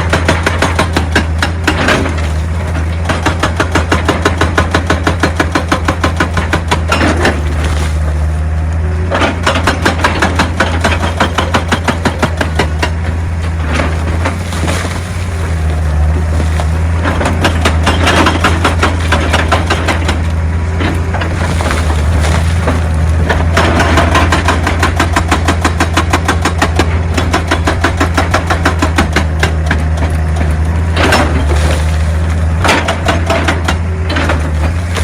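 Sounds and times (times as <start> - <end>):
hydraulic breaker hammering stone: 0.0 - 8.2, 9.1 - 35.0
diesel engine under load: 0.0 - 35.0.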